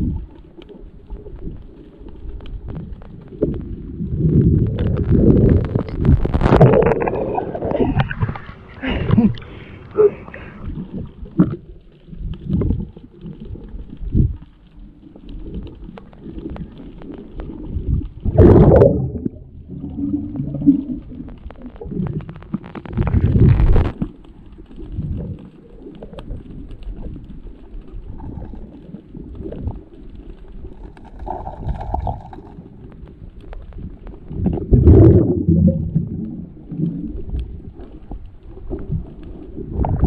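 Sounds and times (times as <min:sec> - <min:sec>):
underwater gurgling and bubbles: 0:00.0 - 0:40.0.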